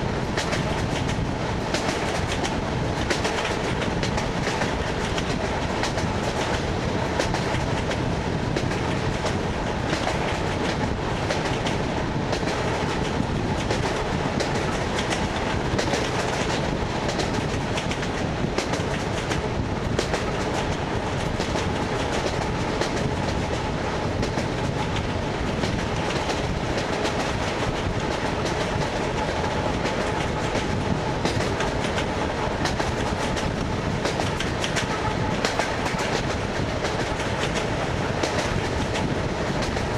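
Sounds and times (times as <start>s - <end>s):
train rumble: 0.0s - 39.9s
train wheels clicking over rail joints: 0.2s - 39.9s.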